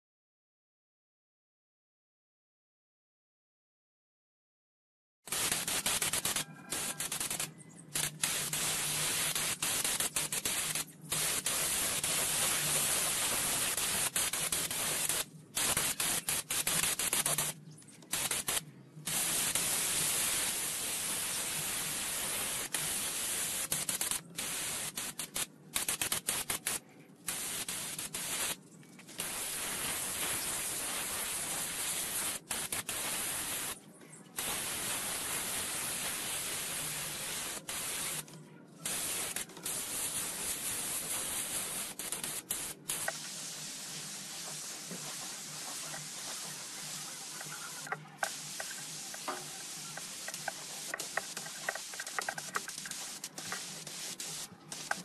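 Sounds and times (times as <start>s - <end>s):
compressed air hissing from air tool: 5.3s - 28.6s, 29.2s - 33.8s, 34.4s - 38.2s, 38.8s - 55.0s.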